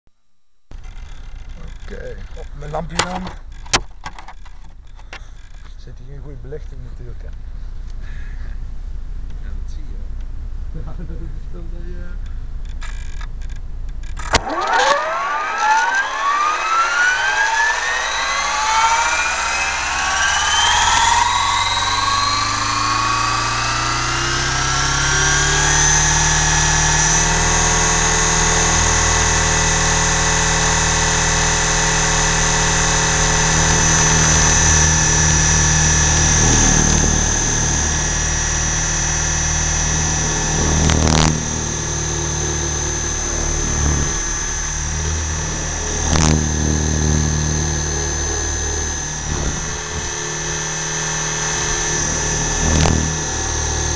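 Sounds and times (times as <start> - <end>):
rc helicopter rotor whine: 0.7 - 5.7, 12.6 - 53.9.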